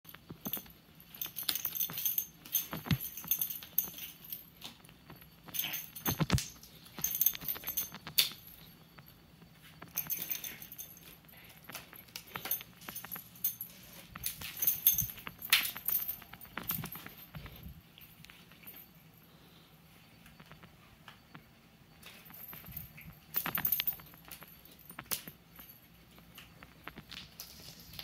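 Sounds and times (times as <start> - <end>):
metal collar tags jingling: 0.1 - 19.2, 22.0 - 28.0.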